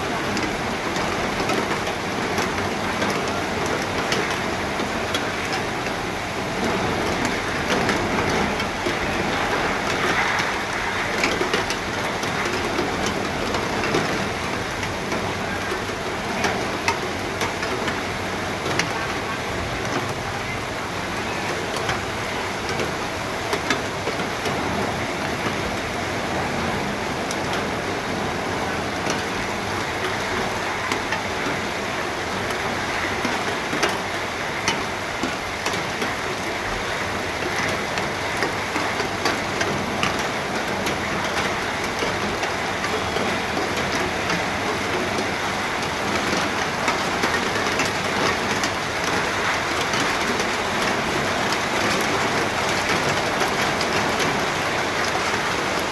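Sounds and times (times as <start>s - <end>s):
raindrops ticking on a surface: 0.0s - 55.9s
steady rain: 0.0s - 55.9s.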